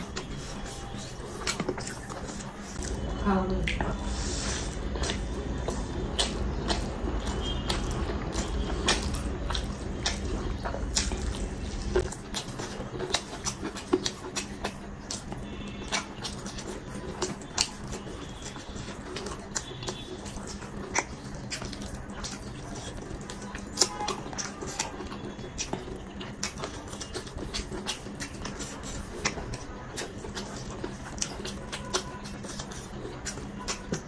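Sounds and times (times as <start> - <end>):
lip smacks and mouth clicks: 0.0 - 4.1, 4.7 - 34.0
fingers squishing rice: 0.0 - 34.0
wet open-mouth chewing: 0.0 - 34.0.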